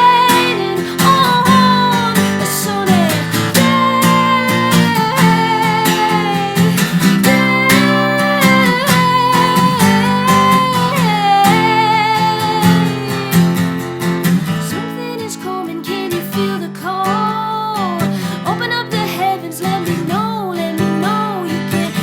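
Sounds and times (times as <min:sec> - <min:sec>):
strummed guitar: 0:00.0 - 0:22.0
woman singing: 0:00.0 - 0:22.0.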